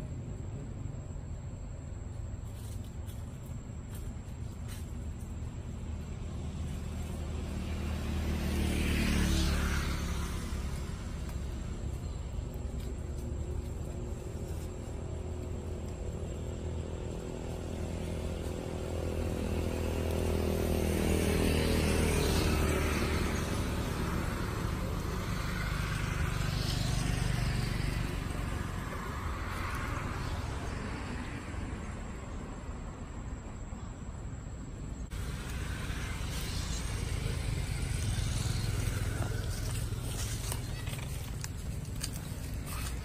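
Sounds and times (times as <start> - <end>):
vehicle engine passing by: 4.4 - 34.1, 34.9 - 43.0.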